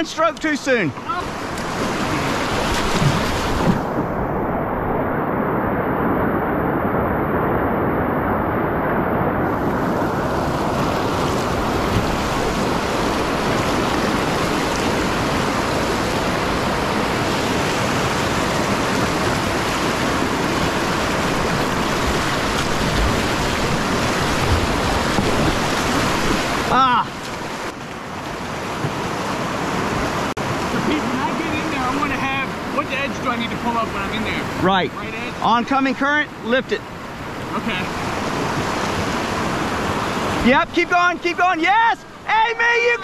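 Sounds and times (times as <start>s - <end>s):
whitewater rushing: 0.0s - 43.0s.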